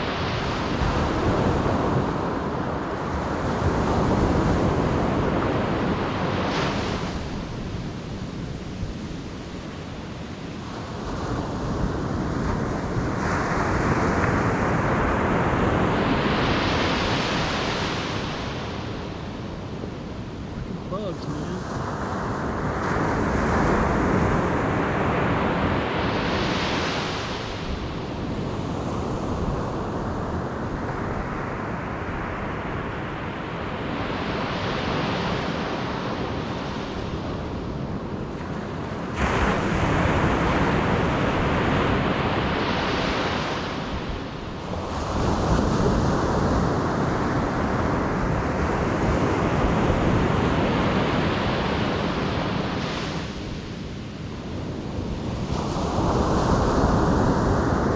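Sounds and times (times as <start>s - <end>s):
waves crashing on a beach: 0.0s - 57.9s
wind rumble on microphone: 0.0s - 57.9s.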